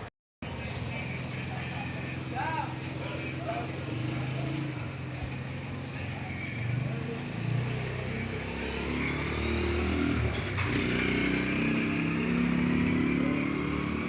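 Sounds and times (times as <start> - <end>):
vehicle engines revving and passing: 0.4 - 14.0.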